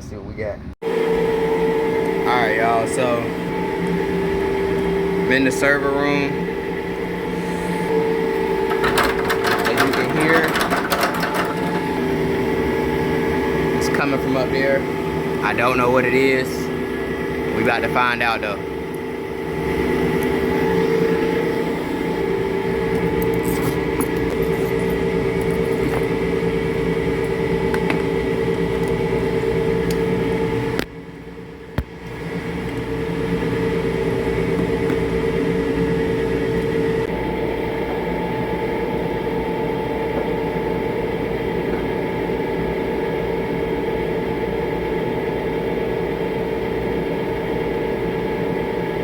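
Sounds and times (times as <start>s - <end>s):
air conditioning unit droning: 0.0s - 49.0s.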